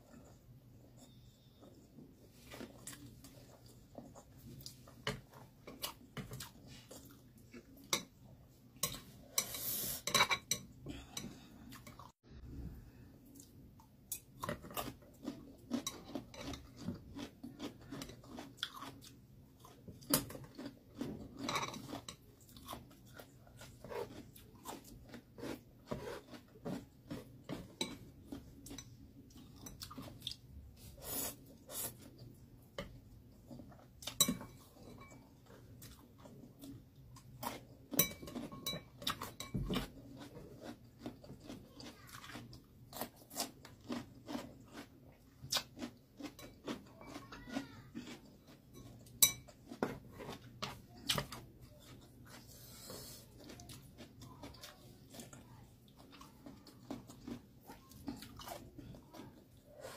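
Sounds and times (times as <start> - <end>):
person chewing noodles: 0.0 - 8.4, 13.2 - 59.9.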